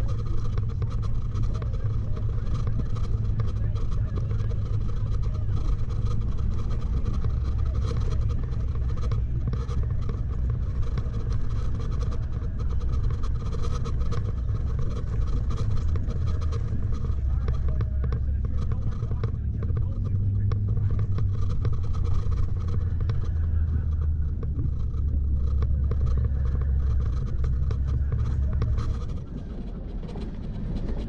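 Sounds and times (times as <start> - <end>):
engine and tyre drone: 0.0 - 31.0
small clicks and ticks: 0.0 - 31.0.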